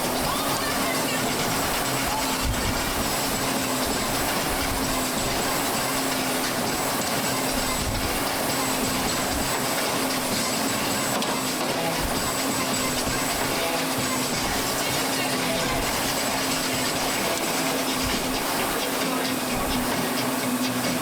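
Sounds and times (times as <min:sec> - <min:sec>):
air bike fans whooshing: 0:00.0 - 0:21.0.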